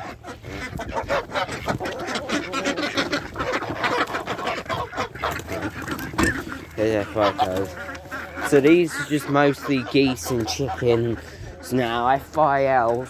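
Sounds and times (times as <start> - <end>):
geese honking: 0.0 - 13.0
poultry calling: 0.0 - 13.0.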